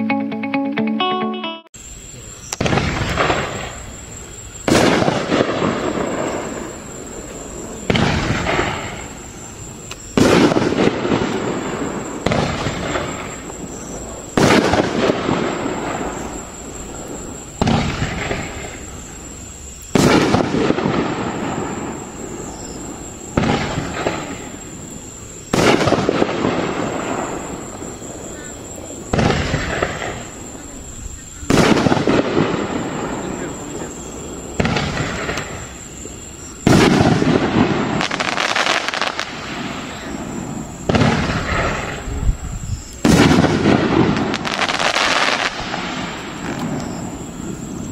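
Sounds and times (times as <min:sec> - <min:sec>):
firework bangs: 0:02.5 - 0:47.9
firework rushing noise: 0:02.5 - 0:47.9.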